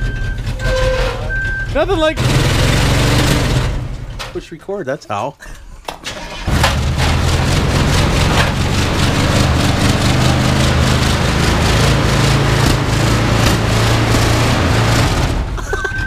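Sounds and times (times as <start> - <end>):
van engine running: 0.0 - 4.3, 6.1 - 16.0.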